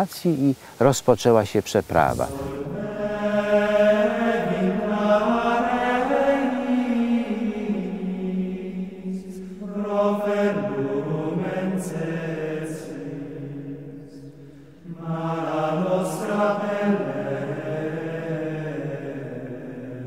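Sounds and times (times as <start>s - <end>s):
voices chanting held notes: 1.4s - 20.0s.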